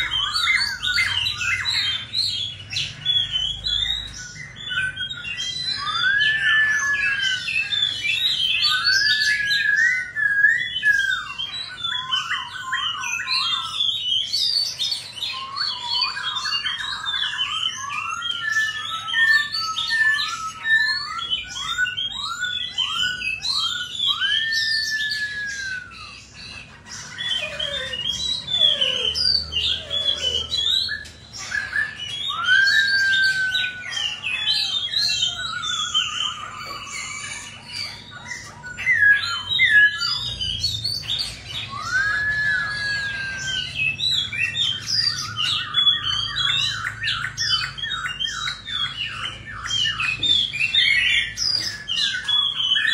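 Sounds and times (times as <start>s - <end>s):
bird singing whistled song: 0.0s - 52.9s.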